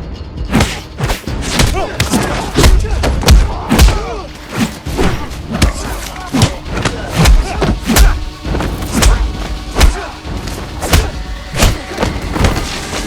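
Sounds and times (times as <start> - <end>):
action music: 0.0 - 13.0
punch and kick impacts: 0.5 - 10.1, 10.8 - 13.0.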